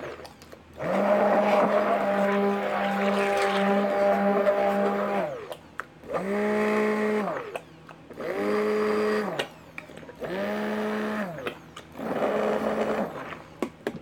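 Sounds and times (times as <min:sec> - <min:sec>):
stick blender motor: 0:00.0 - 0:09.6, 0:10.2 - 0:13.4.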